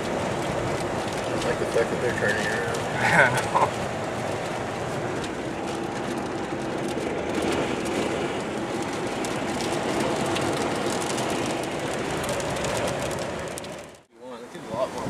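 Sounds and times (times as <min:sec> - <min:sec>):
wind buffeting microphone: 0:00.0 - 0:13.7, 0:14.5 - 0:15.0.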